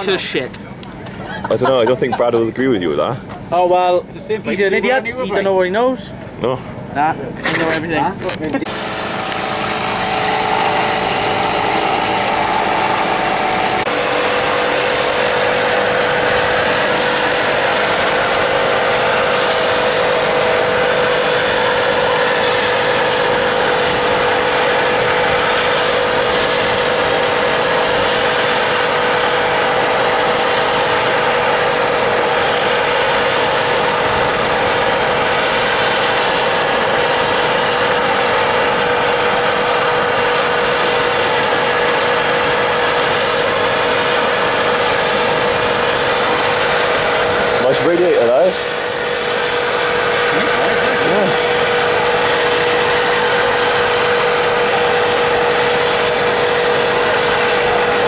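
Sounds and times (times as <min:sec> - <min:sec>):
machine drone: 0:08.6 - 0:58.0.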